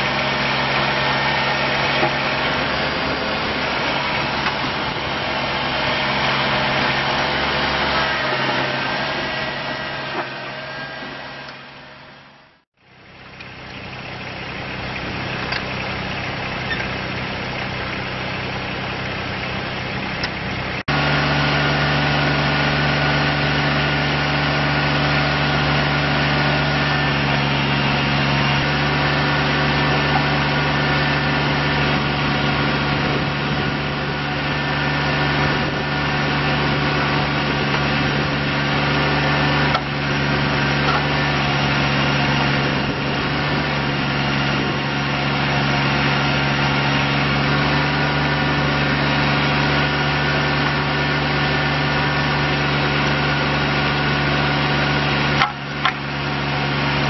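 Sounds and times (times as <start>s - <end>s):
hydraulic backhoe working: 0.0s - 57.0s
tractor diesel engine running: 0.0s - 57.0s.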